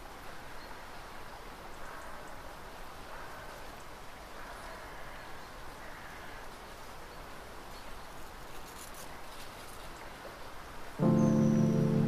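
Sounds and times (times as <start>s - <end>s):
steady background hiss: 0.0s - 12.0s
faint distant bird calls: 0.4s - 8.4s, 9.9s - 12.0s.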